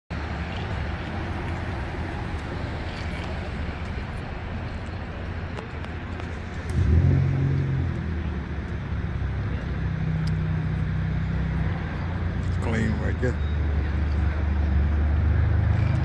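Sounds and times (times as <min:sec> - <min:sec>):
outdoor background noise: 0:00.1 - 0:16.0.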